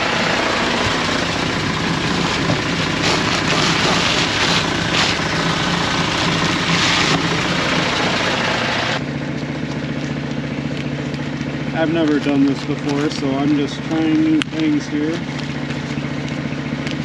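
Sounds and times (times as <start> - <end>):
air compressor running: 0.0 - 17.0.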